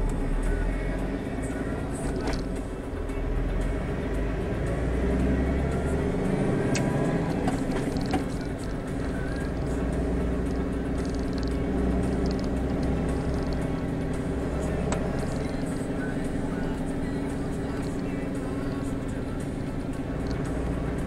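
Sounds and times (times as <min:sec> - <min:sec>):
truck diesel engine and road rumble: 0:00.0 - 0:21.0.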